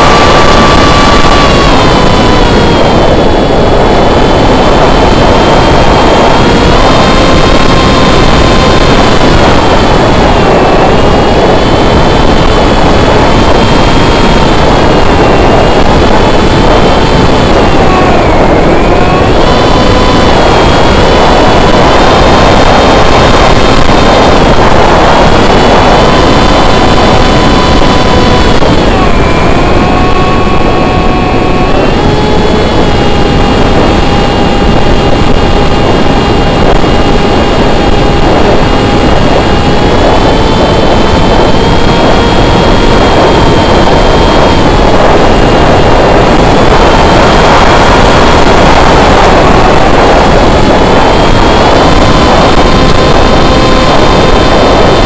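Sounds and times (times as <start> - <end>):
electric motor and propeller whine: 0.0 - 55.0
heavy rushing noise: 0.0 - 55.0.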